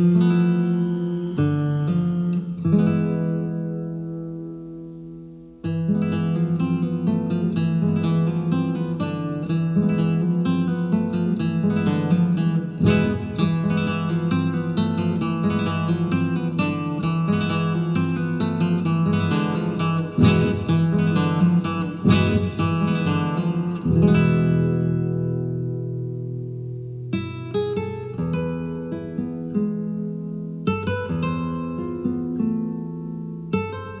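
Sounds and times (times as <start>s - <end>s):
acoustic guitar music: 0.0s - 34.0s.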